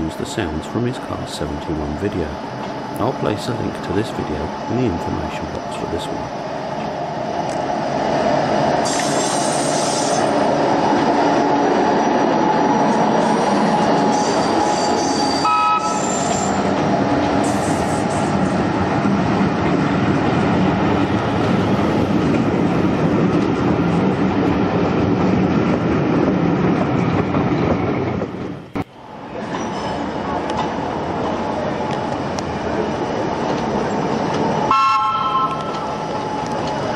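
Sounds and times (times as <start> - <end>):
train rumbling on rails: 0.0 - 36.9.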